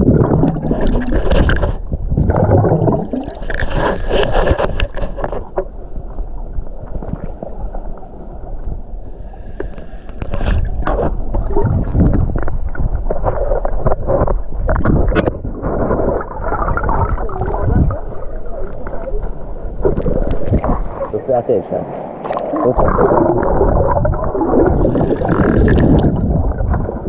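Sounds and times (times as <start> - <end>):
muffled underwater gurgling: 0.0 - 5.8, 9.7 - 21.6, 22.2 - 27.0
underwater knocks and clicks: 0.0 - 7.6, 9.6 - 21.1, 22.2 - 27.0.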